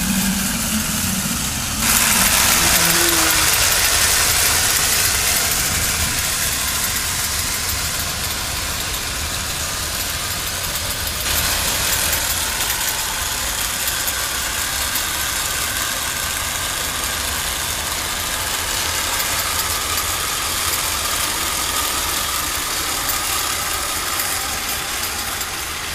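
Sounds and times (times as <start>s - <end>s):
electric motor hum: 0.0s - 25.9s
toy train wheels rumbling on rails: 0.0s - 25.9s.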